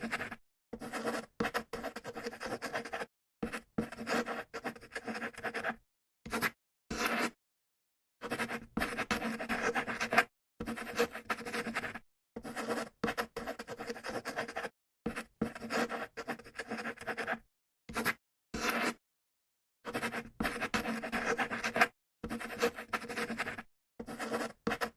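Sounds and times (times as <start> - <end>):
pen scratching on paper: 0.0 - 7.4, 8.2 - 19.0, 19.9 - 24.9.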